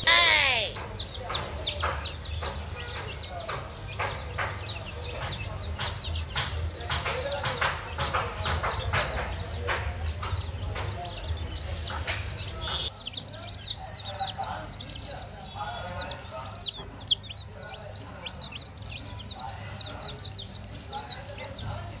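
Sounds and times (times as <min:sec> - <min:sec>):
baby chickens peeping: 0:00.0 - 0:22.0
chicks pecking plastic tray: 0:00.1 - 0:22.0.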